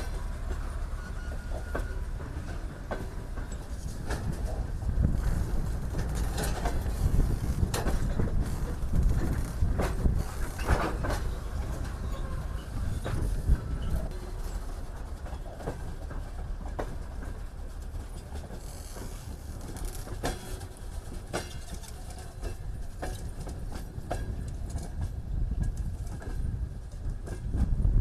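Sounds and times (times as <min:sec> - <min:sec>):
train cars rumbling: 0:00.0 - 0:28.0
wheels and couplings clanking: 0:00.0 - 0:28.0.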